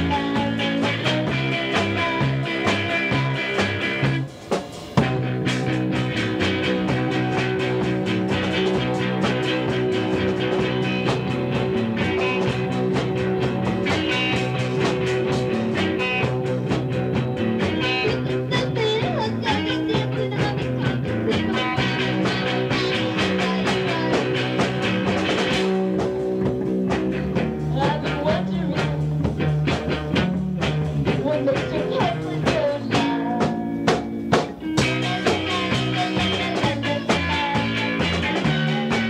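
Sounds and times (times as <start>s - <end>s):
bass guitar: 0.0s - 39.0s
drums playing: 0.0s - 39.0s
electric guitars: 0.0s - 39.0s.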